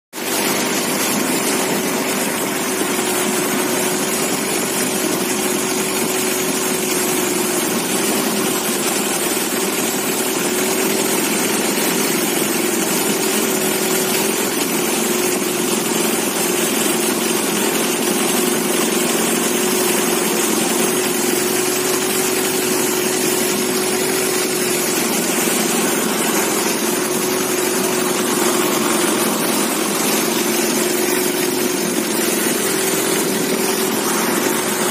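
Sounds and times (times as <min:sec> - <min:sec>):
boat engine running: 0:00.2 - 0:34.9.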